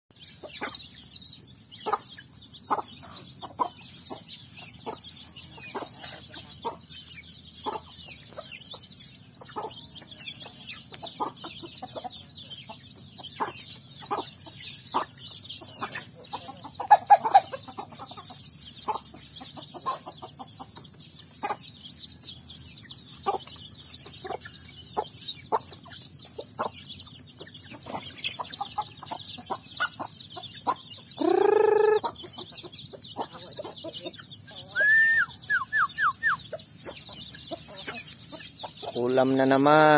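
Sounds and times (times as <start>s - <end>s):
chicks peeping: 0.1s - 39.9s
hen clucking: 0.2s - 1.1s, 1.8s - 39.9s.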